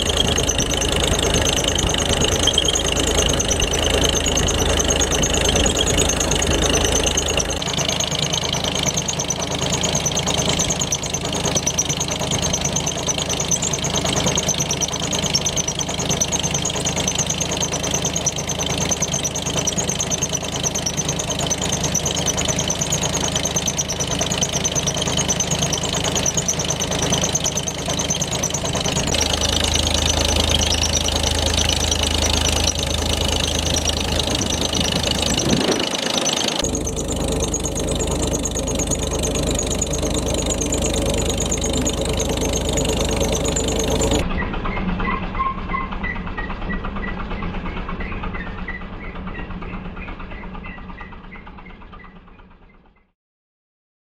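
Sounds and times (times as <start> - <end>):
tractor engine rumbling: 0.0 - 52.3.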